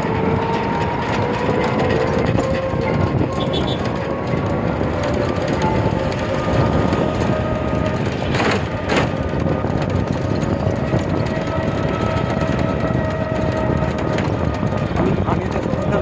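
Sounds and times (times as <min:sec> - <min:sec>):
moving vehicle rumbling: 0:00.0 - 0:16.0.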